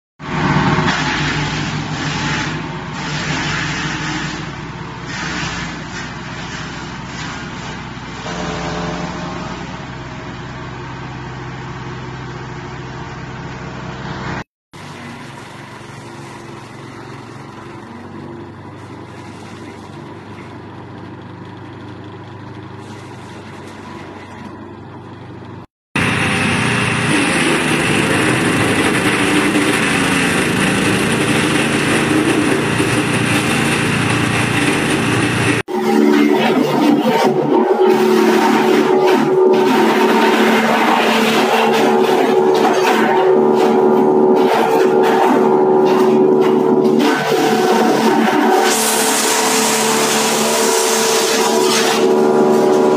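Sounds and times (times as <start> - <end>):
engine drone: 0.2 - 52.9
wood chipper grinding branches: 0.2 - 52.9.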